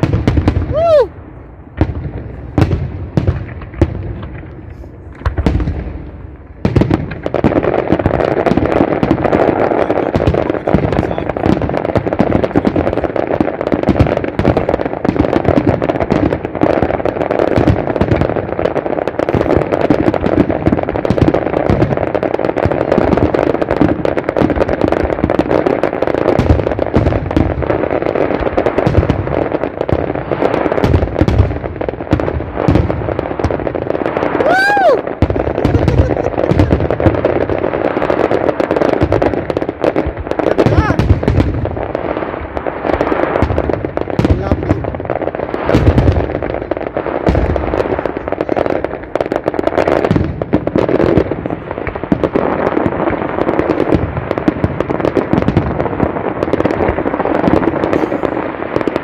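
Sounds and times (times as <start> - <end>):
fireworks banging and crackling: 0.0 - 59.0.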